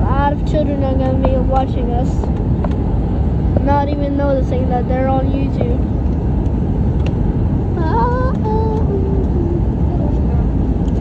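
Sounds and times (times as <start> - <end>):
airliner cabin rumble while taxiing: 0.0 - 11.0.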